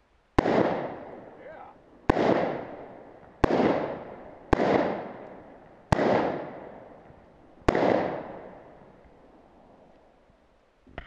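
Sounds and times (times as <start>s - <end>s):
gunshots with long echo: 0.4s - 9.9s.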